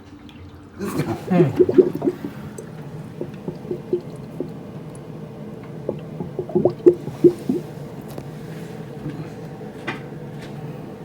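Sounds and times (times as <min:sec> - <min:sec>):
sink drain gurgling: 0:00.8 - 0:11.0.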